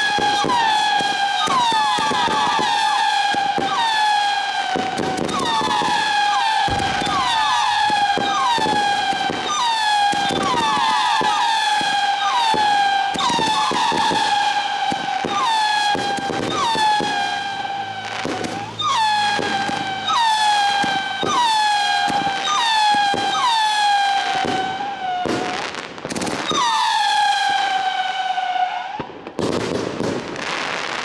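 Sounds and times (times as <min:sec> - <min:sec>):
firework crackling: 0:00.0 - 0:31.0
firework shots cracking: 0:00.0 - 0:31.0
firework whistles: 0:00.0 - 0:31.0.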